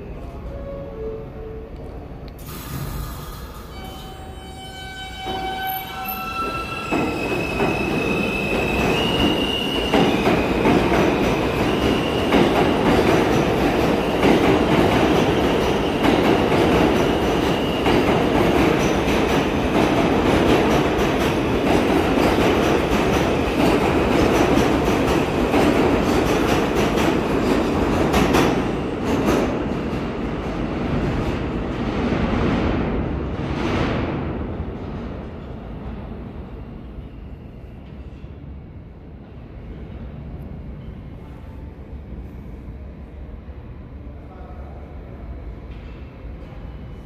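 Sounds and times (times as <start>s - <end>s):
train wheels rumbling on rail: 2.3s - 43.1s.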